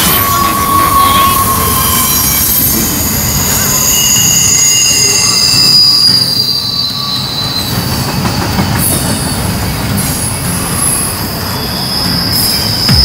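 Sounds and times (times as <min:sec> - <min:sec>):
freight cars rumbling: 0:00.0 - 0:13.0
train wheels squealing: 0:00.0 - 0:13.0.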